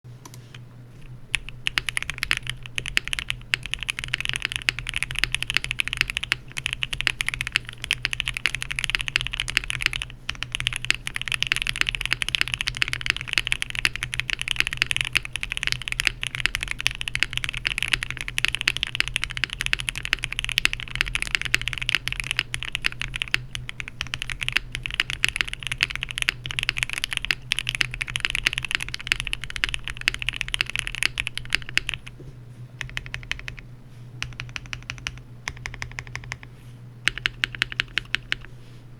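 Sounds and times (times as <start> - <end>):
mechanical keyboard typing: 1.3 - 32.1, 32.8 - 33.6, 34.2 - 38.5.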